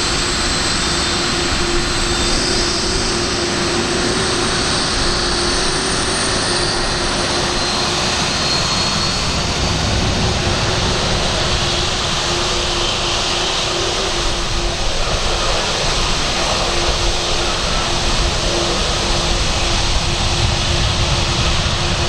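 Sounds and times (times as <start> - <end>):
jet aircraft taxiing: 0.0 - 22.0.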